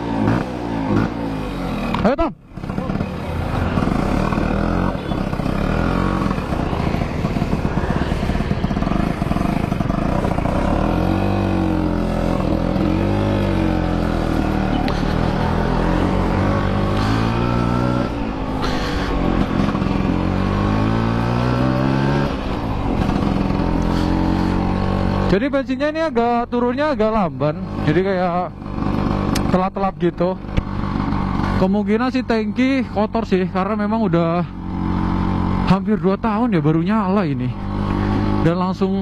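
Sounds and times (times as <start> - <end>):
two-stroke scooter engine surging: 0.0 - 39.0.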